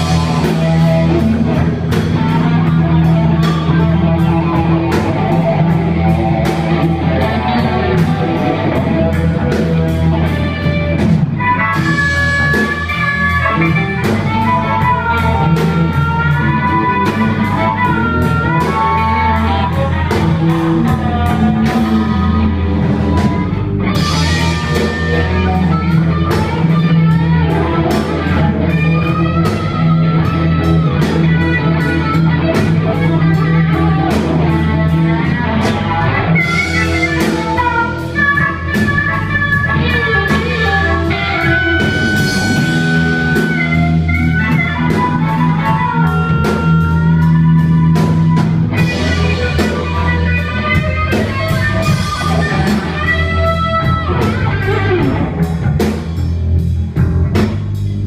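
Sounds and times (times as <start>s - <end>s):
harmonica lead with bent notes: 0.0s - 57.5s
blues-rock band playing: 0.0s - 58.0s.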